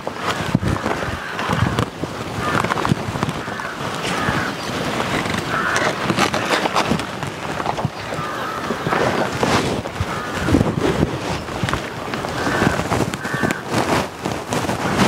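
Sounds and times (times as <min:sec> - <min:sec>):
banana leaves rustling and crackling: 0:00.0 - 0:15.0
steady background noise: 0:00.0 - 0:15.0.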